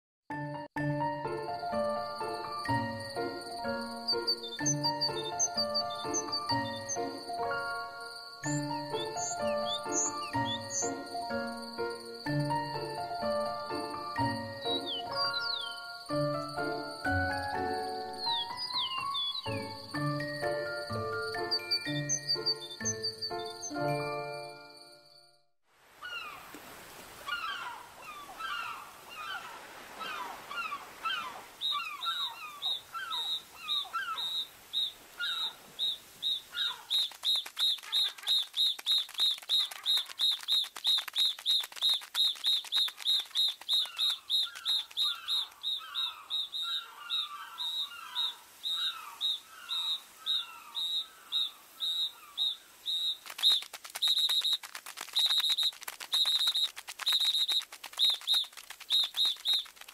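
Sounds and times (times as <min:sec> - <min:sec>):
birds chirping: 0:02.0 - 0:24.3, 0:27.2 - 0:59.9.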